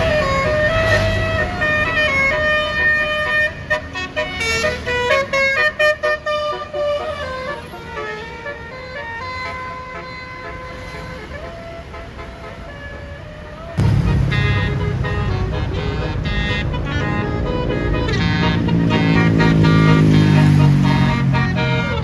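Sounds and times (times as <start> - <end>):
bus air horn playing a melody: 0.0 - 22.0.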